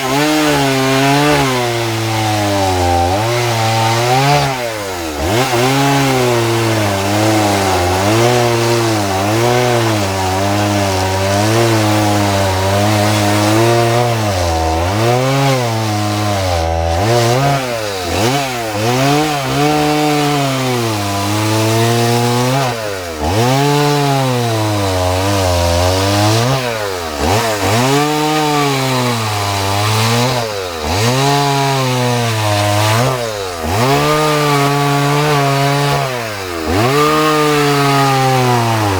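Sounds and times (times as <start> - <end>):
chainsaw cutting into log: 0.0 - 38.9.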